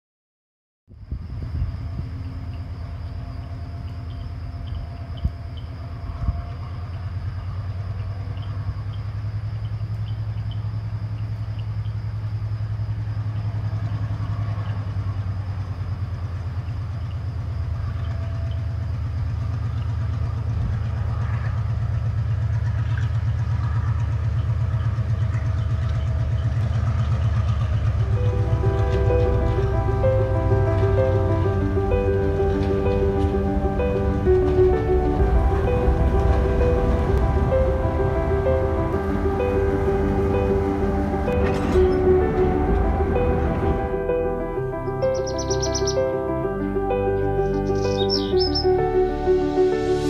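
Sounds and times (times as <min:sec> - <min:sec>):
diesel locomotive engine rumbling: 0:00.9 - 0:50.0.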